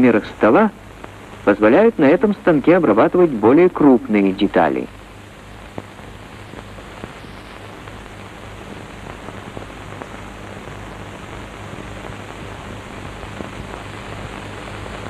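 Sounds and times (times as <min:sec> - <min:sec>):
faint crackles: 0:00.0 - 0:15.0
steady hiss: 0:00.0 - 0:15.0.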